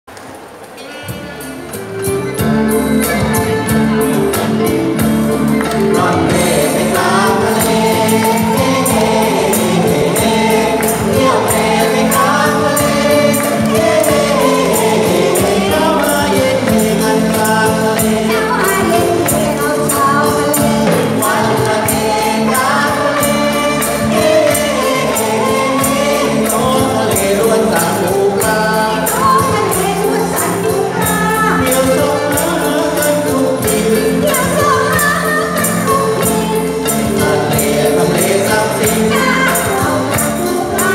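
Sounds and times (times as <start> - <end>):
band accompaniment: 0.2 - 40.9
percussion beat: 0.8 - 40.9
group singing in unison: 2.4 - 40.9.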